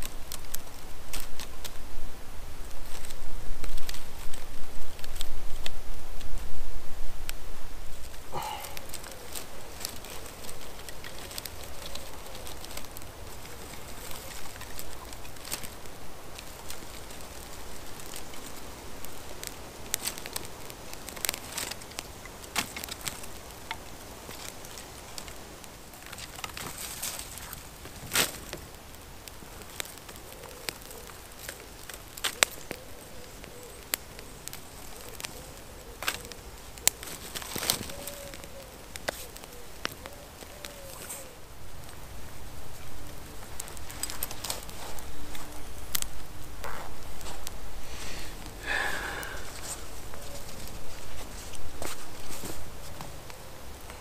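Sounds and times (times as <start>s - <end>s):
campfire crackling: 0.0s - 54.0s
sticks snapping in fire: 2.7s - 6.3s, 8.0s - 42.0s, 42.9s - 54.0s.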